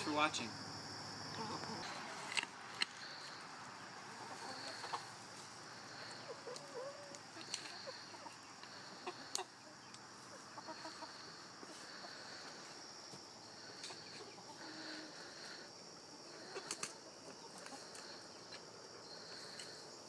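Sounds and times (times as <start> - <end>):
high insect trill: 0.0 - 20.0
hens clucking softly: 3.0 - 12.8, 13.5 - 19.8.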